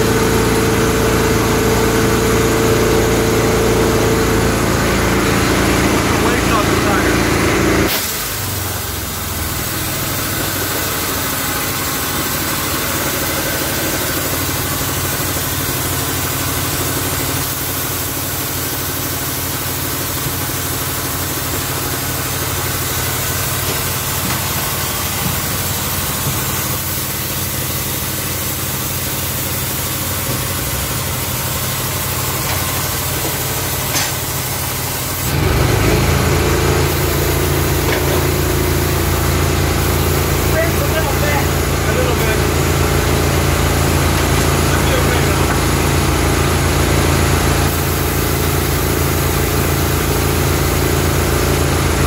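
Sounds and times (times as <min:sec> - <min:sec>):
engine idling: 0:00.0 - 0:52.0.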